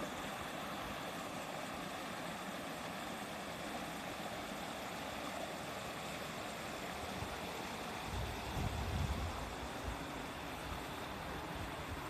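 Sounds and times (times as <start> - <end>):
stream babbling over rocks: 0.0 - 12.0.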